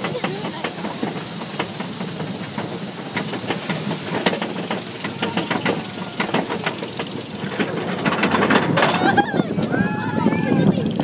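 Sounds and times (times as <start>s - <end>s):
machinery rumble: 0.0s - 11.0s
ride machinery clacking: 0.0s - 11.0s.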